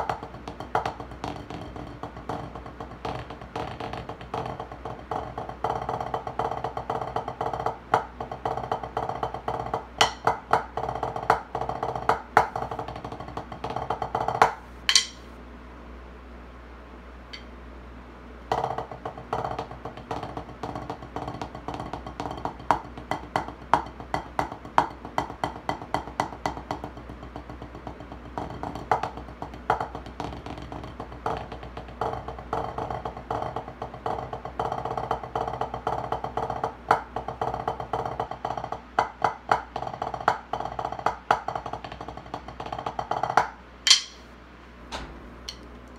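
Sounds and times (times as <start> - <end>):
drumsticks tapping on practice pad: 0.0 - 15.3, 17.3 - 17.5, 18.5 - 44.3, 44.9 - 45.7.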